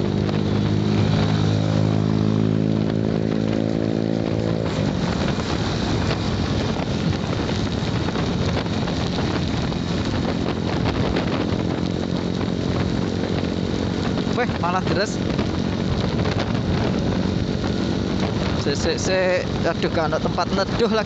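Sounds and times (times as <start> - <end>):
motorcycle engine: 0.0 - 21.0
wind and rain on microphone: 0.0 - 21.0.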